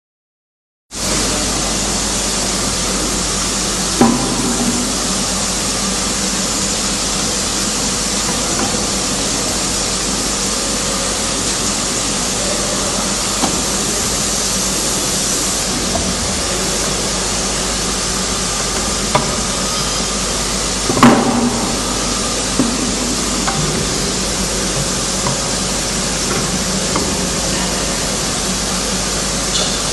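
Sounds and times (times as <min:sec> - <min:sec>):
machine background hiss: 0:01.0 - 0:29.9.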